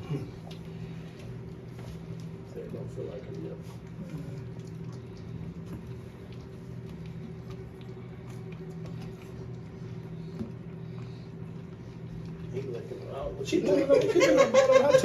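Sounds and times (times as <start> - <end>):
puppies lapping milk: 0.0 - 15.0.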